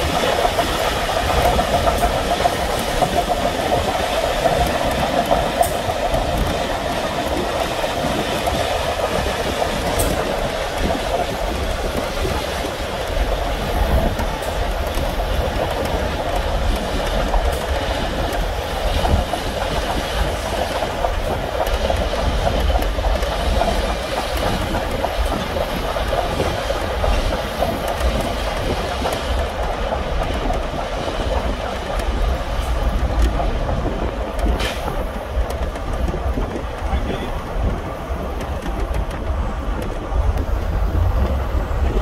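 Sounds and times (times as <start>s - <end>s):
steam train rumble: 0.0s - 42.0s
wheel clatter: 0.0s - 42.0s.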